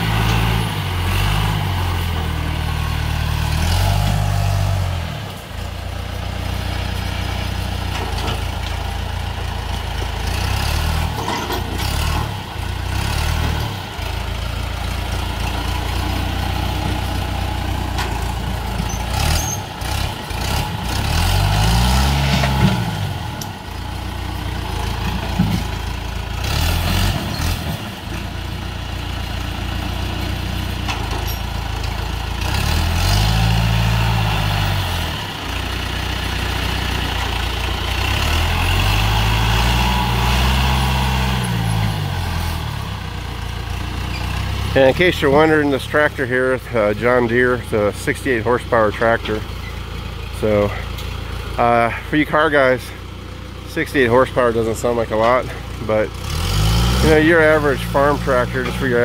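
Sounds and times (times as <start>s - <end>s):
diesel tractor engine revving: 0.0s - 59.0s.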